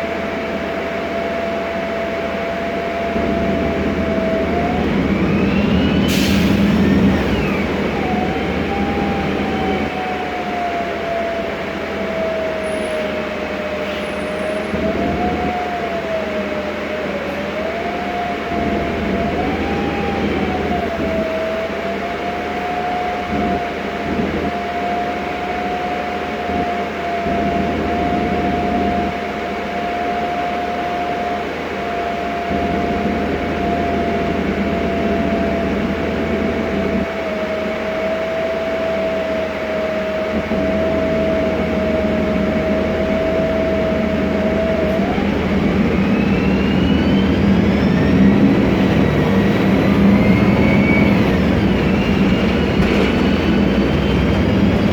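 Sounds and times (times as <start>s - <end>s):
bus engine: 0.0s - 54.9s
gearbox whine: 0.0s - 54.9s
road noise: 0.0s - 54.9s.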